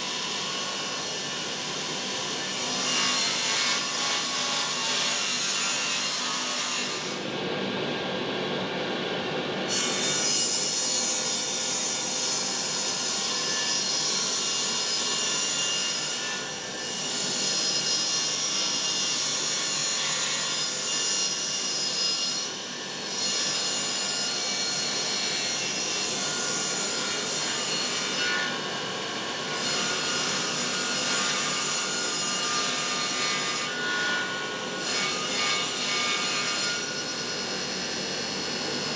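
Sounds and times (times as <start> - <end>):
power saw cutting wood: 0.0 - 7.3, 9.7 - 38.9.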